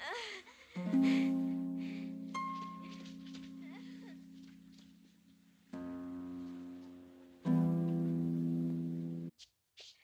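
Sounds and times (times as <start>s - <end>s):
film score low chord: 0.8s - 9.3s.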